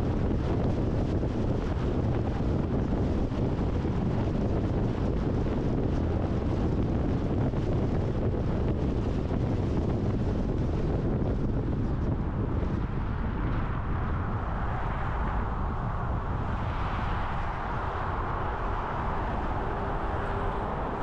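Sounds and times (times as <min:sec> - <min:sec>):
car road and wind noise: 0:00.0 - 0:21.0
wind buffeting microphone: 0:00.0 - 0:21.0.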